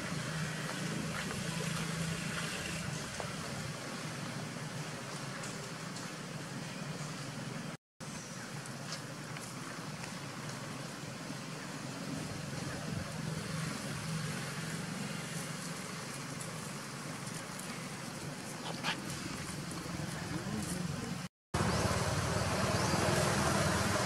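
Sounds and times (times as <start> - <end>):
outdoor rumble and hiss: 0.0 - 24.0.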